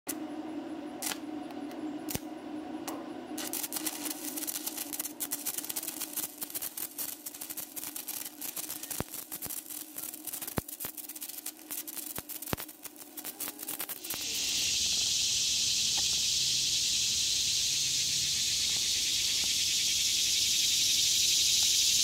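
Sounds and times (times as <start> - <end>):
welding arc crackling: 1.0 - 1.2, 2.1 - 2.3, 3.4 - 22.0.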